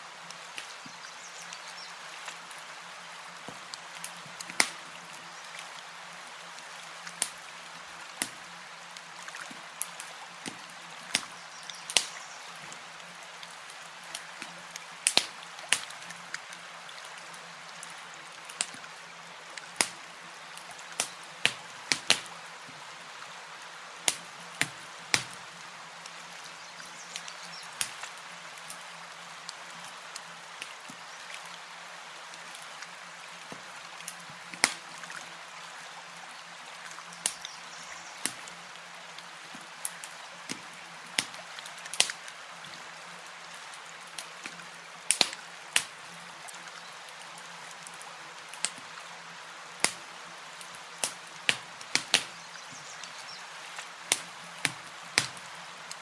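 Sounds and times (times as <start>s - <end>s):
campfire crackling: 0.0s - 31.6s, 32.2s - 35.4s, 36.0s - 56.0s.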